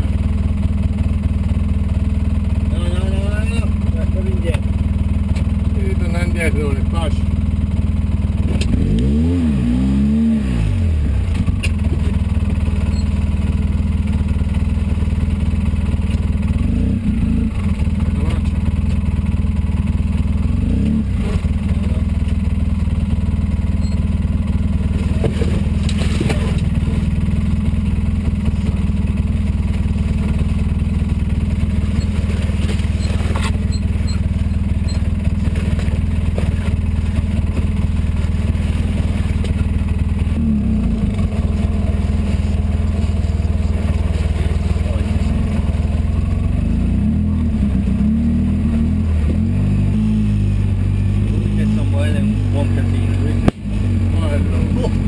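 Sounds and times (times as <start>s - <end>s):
engine running and revving: 0.0s - 55.0s.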